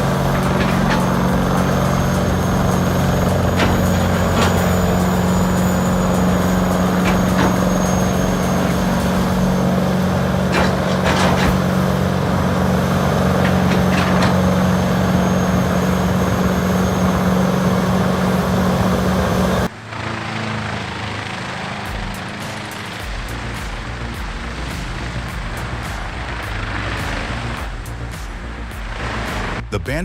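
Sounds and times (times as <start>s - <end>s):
wood grinder engine drone: 0.0s - 29.8s
quieter machine running: 0.0s - 30.0s.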